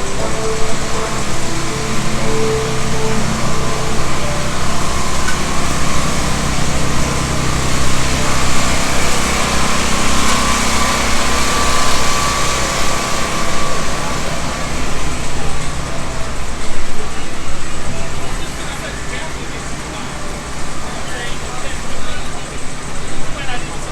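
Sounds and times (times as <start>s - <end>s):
engine running with low hum: 0.0s - 23.9s.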